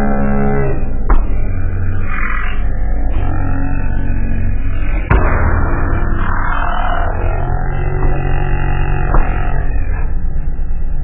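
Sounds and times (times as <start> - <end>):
ambient synthesizer music: 0.0 - 11.0.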